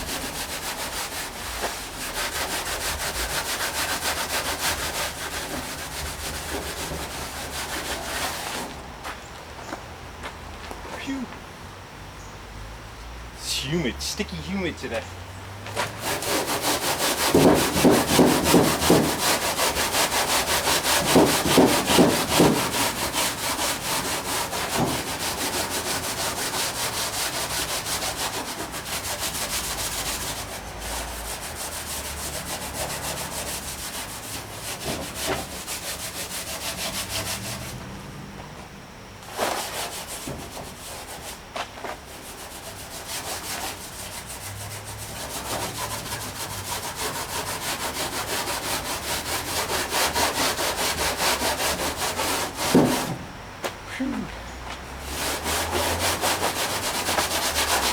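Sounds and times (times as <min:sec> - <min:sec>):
scrubbing pad rubbing painted steel: 0:00.0 - 0:08.8, 0:15.8 - 0:37.9, 0:39.3 - 0:53.2, 0:55.0 - 0:57.9.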